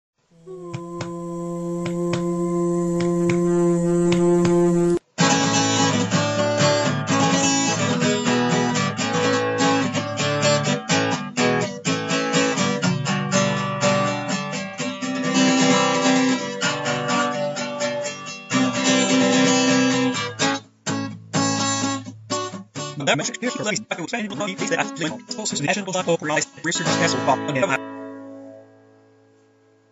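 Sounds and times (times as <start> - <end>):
acoustic guitar music: 0.5 - 29.9.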